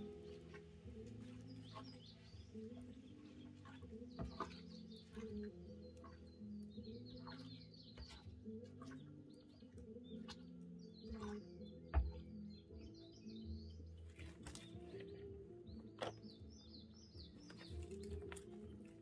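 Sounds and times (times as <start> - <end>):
soft music with low notes: 0.0 - 19.0.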